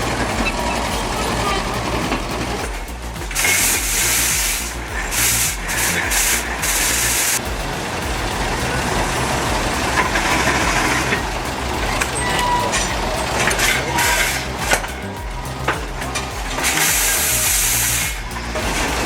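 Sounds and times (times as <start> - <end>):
low machinery rumble: 0.0 - 19.0
steam hissing: 0.0 - 19.0.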